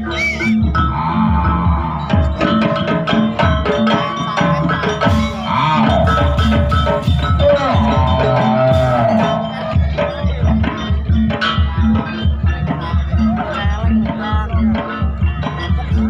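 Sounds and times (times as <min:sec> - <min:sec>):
hand drums beating: 0:00.0 - 0:16.0
ringing percussion: 0:00.0 - 0:16.0
wavering melody line: 0:00.0 - 0:16.0.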